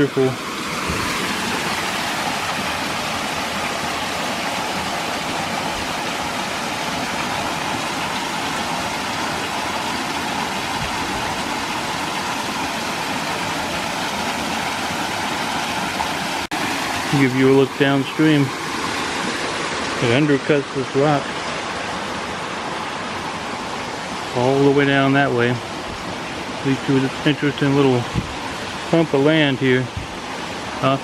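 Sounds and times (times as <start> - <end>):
water running over small waterfall: 0.0 - 31.0.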